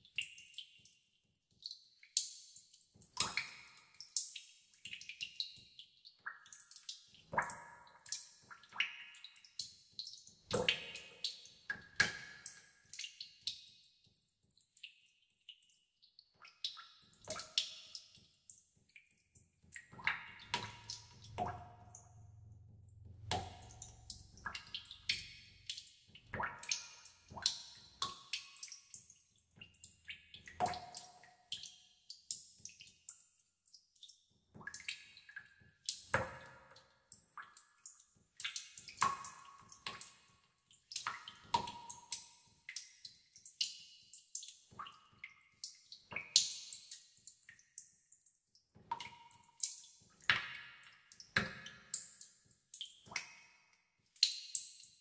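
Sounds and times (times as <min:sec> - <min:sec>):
water drops plinking in cave pool: 0:00.0 - 0:55.0.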